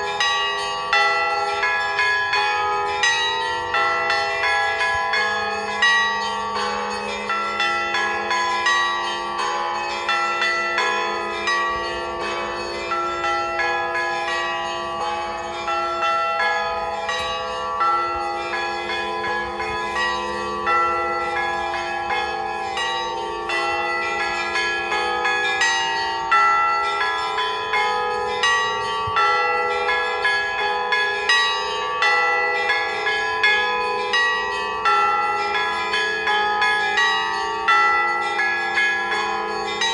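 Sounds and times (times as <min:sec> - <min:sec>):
deep bells humming: 0:00.0 - 0:39.9.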